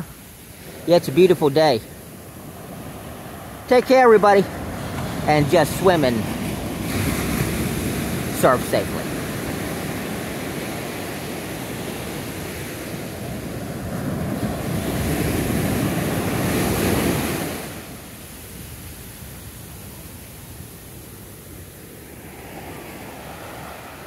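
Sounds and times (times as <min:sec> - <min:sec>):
surf breaking on sand: 0:00.0 - 0:24.0.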